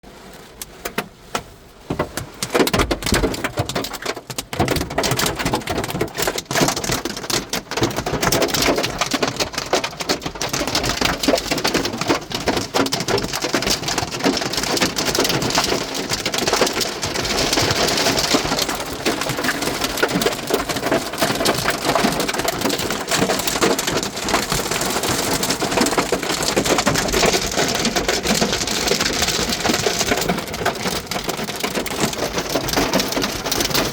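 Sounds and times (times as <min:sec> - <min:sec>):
hailstones pelting down: 0:02.0 - 0:33.9.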